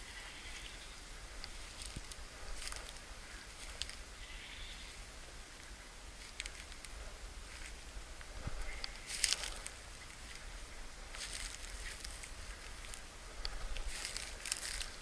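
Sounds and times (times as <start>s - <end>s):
steady hiss: 0.0s - 15.0s
footsteps crunching dry leaves: 1.5s - 4.8s, 6.2s - 15.0s.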